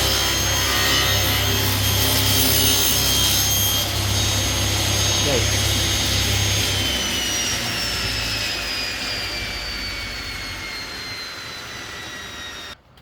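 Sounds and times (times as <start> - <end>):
table saw spinning down: 0.0 - 12.8.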